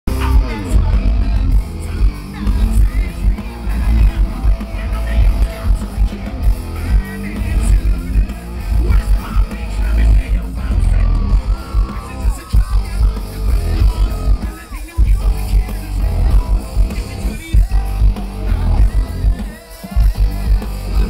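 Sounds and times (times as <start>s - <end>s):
live heavy rock band: 0.1s - 21.0s.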